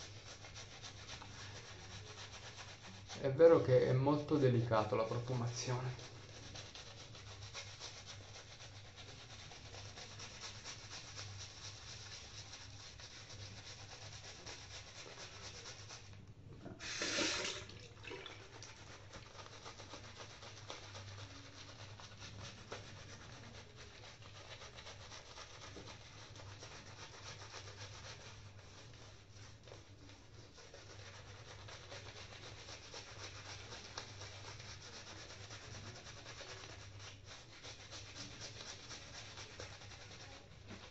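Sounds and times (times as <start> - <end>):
shaving brush scratching on face: 0.0 - 40.9.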